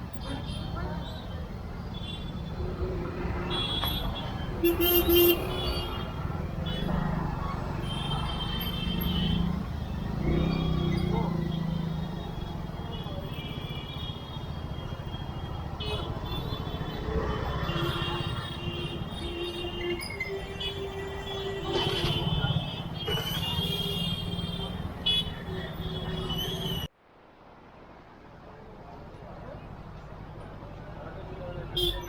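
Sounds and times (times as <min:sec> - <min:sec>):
passing vehicles: 0:00.0 - 0:32.0.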